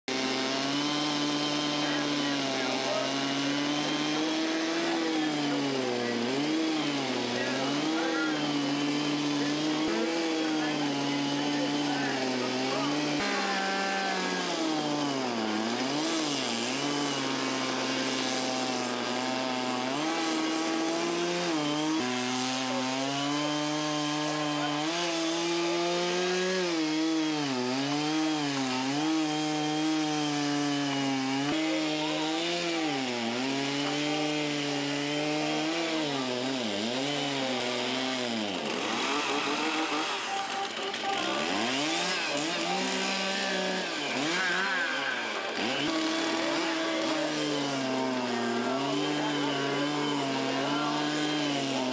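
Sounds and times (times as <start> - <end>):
chainsaws cutting wood: 0.0 - 51.9.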